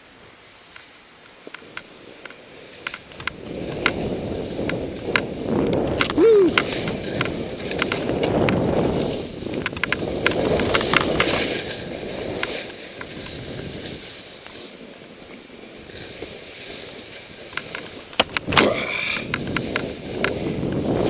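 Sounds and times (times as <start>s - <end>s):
skis scraping through snow: 0.0s - 18.5s, 19.2s - 21.0s.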